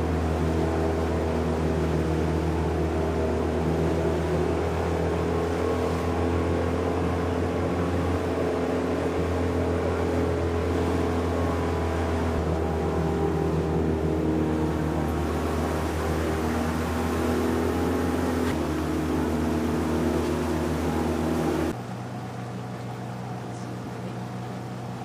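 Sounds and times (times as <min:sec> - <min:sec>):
water rushing: 0:00.0 - 0:21.8
boat engine droning: 0:00.0 - 0:25.0.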